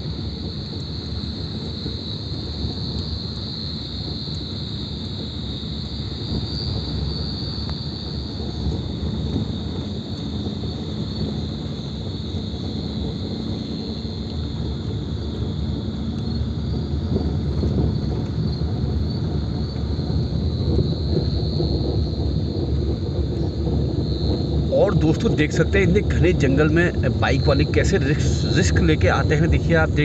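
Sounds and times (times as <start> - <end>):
crickets chirping: 0.0 - 30.0
low vehicle rumble: 0.0 - 30.0.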